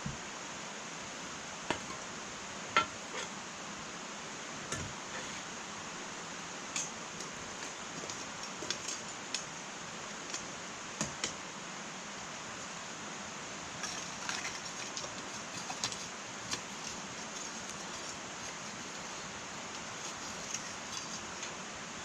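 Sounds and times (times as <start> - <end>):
wood fire hissing and crackling: 0.0 - 22.0.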